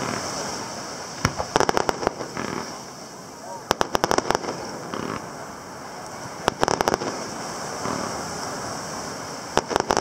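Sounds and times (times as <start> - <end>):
distant fireworks cracking: 0.0 - 8.6, 9.2 - 10.0
steady background noise: 0.0 - 10.0.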